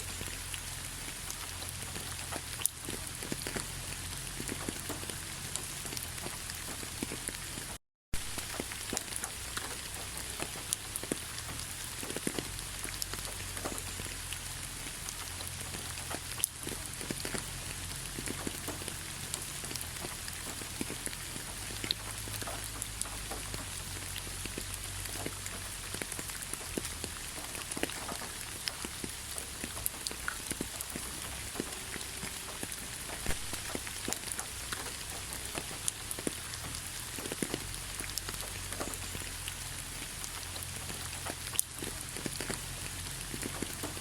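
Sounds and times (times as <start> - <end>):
rain drops pattering: 0.0 - 44.0.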